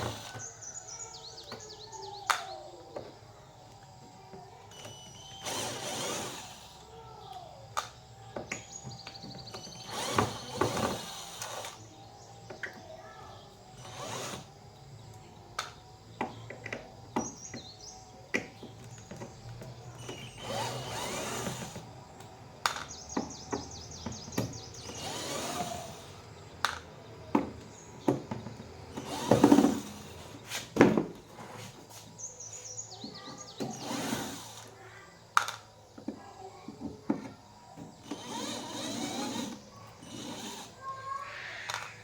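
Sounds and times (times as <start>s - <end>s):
small tool whirring: 0.0s - 42.0s.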